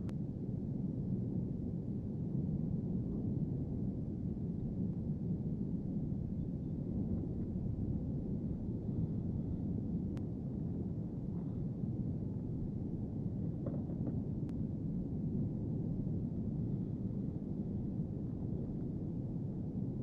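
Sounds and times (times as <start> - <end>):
deep rumble of lava fountain: 0.0 - 20.0.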